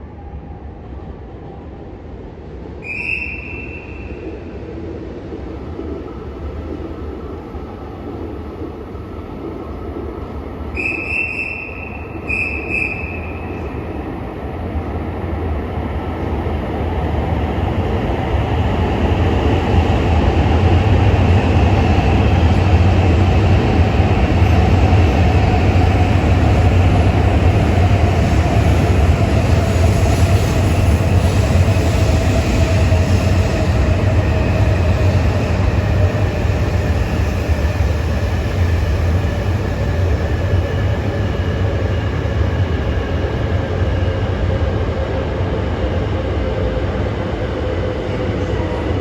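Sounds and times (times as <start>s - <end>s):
train rumbling on tracks: 0.0s - 49.0s.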